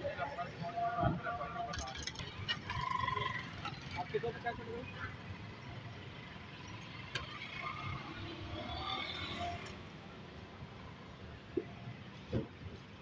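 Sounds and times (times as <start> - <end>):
street food stall background: 0.0 - 13.0.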